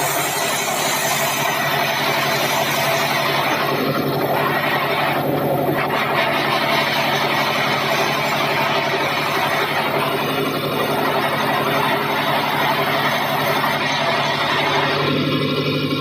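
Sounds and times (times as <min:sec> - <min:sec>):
bandsaw running: 0:00.0 - 0:16.0.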